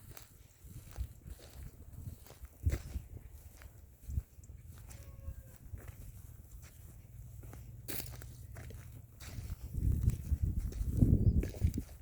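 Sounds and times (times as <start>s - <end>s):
footsteps on forest floor: 0.0s - 12.0s.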